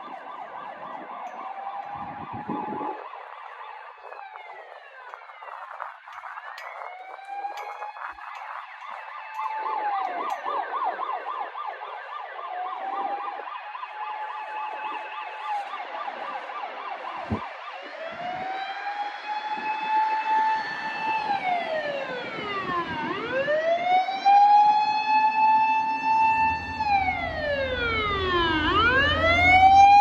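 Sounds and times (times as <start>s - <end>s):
ambulance siren: 0.0s - 30.0s.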